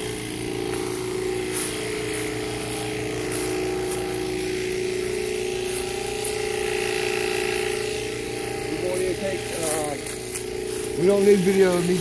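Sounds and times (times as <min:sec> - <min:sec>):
steady motor drone: 0:00.0 - 0:12.0.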